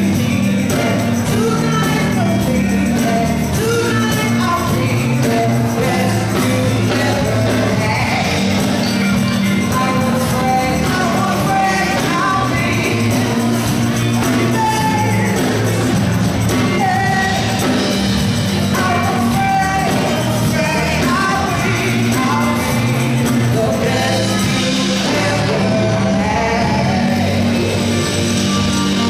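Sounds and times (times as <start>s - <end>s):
live band playing: 0.0s - 29.0s
person singing: 0.0s - 29.0s.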